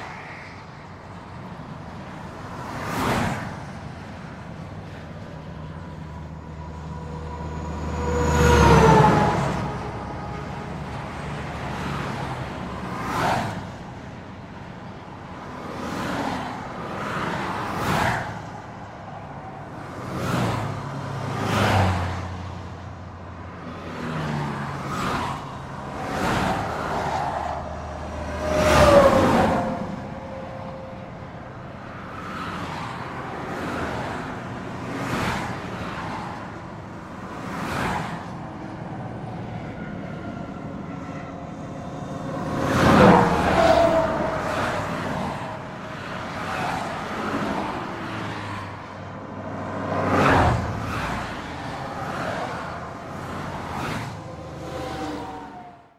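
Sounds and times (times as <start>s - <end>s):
highway traffic rushing: 0.0s - 55.9s
vehicles passing: 0.0s - 55.9s.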